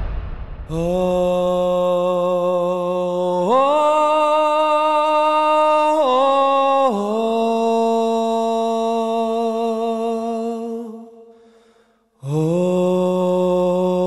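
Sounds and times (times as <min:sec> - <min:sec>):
slow sung chant: 0:00.7 - 0:14.0.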